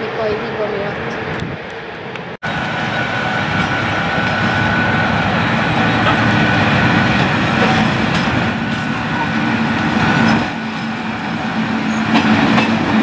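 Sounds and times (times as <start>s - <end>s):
electric locomotive rumbling past: 0.0s - 13.0s.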